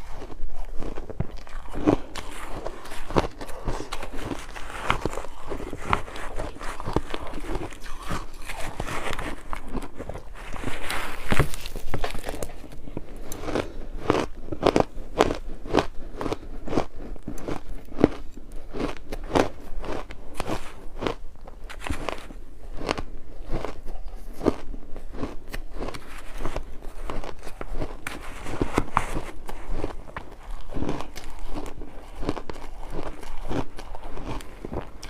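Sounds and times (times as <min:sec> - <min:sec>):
ice crunching while chewed: 0:00.0 - 0:35.0.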